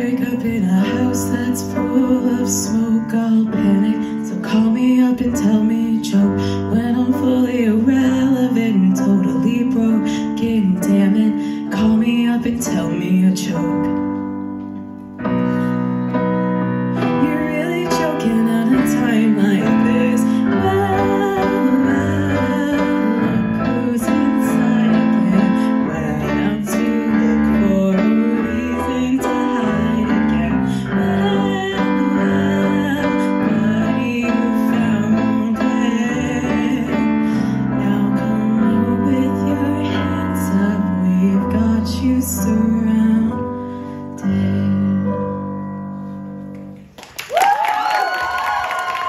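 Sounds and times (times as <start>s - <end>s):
keyboard playing piano voice: 0.0s - 47.0s.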